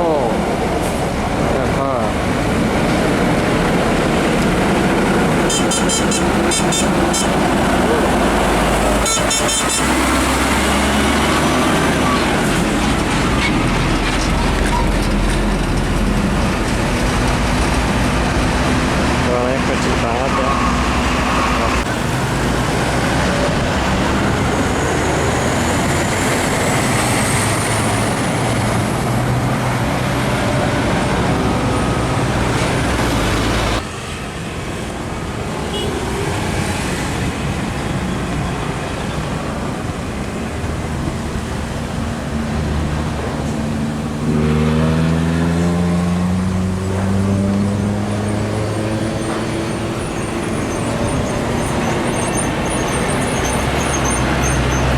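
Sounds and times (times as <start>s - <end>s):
truck engine accelerating: 0.0s - 33.9s, 36.1s - 54.9s
heavy trucks passing: 0.0s - 54.9s.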